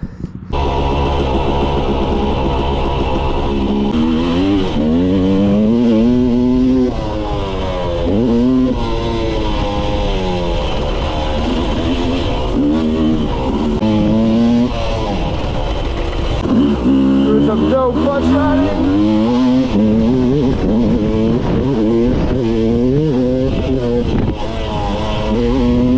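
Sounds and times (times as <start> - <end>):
dirt bike engine revving: 0.4 - 25.9.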